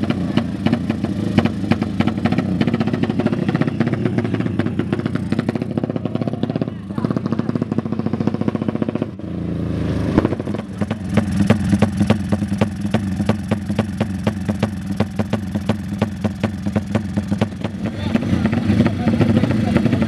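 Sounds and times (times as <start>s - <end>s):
motorcycle revving and idling: 0.0s - 20.0s.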